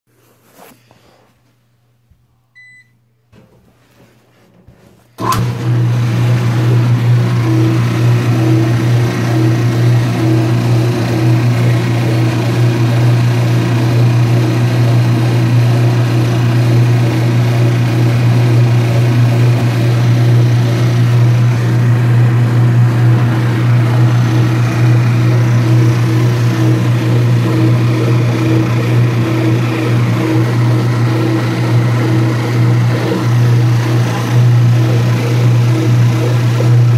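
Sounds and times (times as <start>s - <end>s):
washing machine motor humming: 2.6s - 3.5s, 5.2s - 36.9s.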